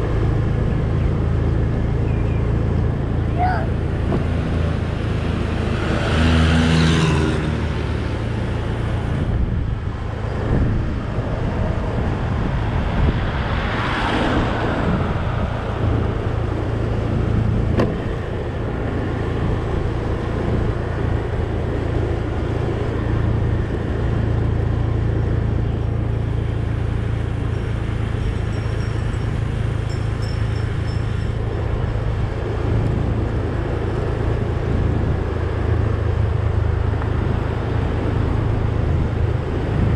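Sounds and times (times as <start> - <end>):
vehicle engine and road noise: 0.0 - 39.9
vehicles passing: 0.0 - 39.9.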